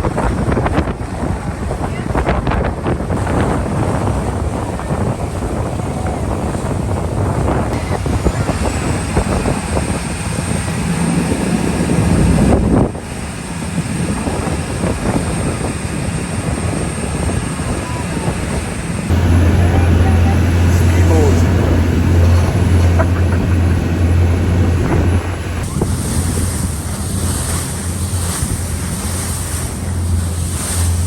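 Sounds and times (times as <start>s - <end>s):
boat engines running: 0.0s - 31.0s
wind buffeting microphone: 0.0s - 31.0s.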